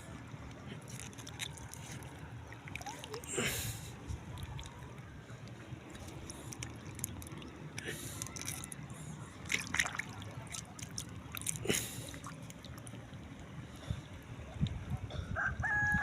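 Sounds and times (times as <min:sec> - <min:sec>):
water rush: 0:00.0 - 0:15.0
water sloshing and trickling: 0:00.0 - 0:15.4.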